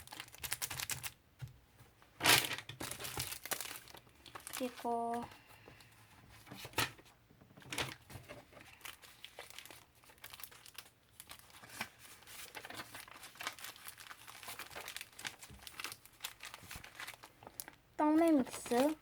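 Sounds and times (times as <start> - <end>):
plastic packaging crinkling: 0.0 - 1.2, 2.2 - 5.9, 7.6 - 19.0.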